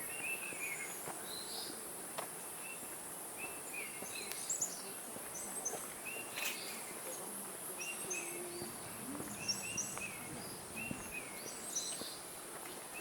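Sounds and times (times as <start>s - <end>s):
forest birds calling: 0.0s - 1.8s, 2.5s - 13.0s
high insect hiss: 2.4s - 13.0s.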